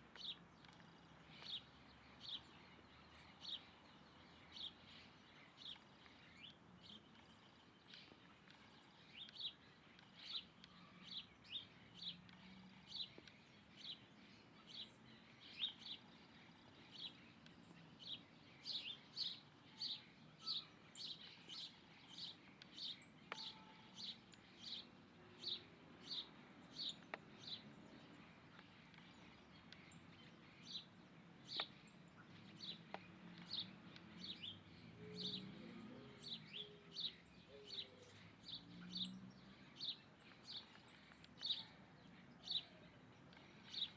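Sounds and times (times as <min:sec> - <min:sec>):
bird chirping: 0:00.0 - 0:43.9.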